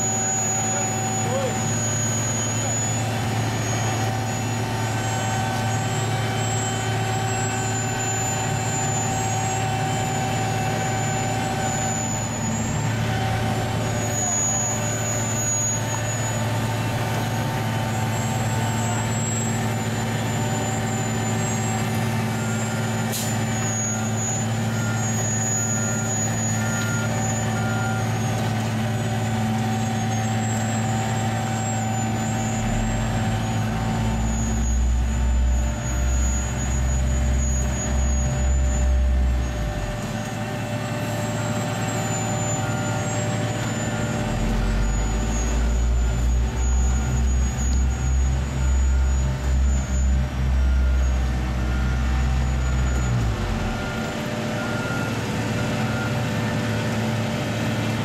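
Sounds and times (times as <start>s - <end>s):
diesel engine running: 0.0s - 58.0s
heavy machinery rumble: 0.0s - 58.0s.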